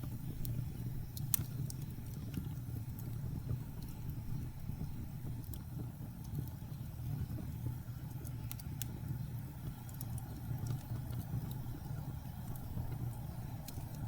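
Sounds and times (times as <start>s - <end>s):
low rumble of blizzard wind: 0.0s - 14.0s
wood crackling in fireplace: 0.0s - 14.0s.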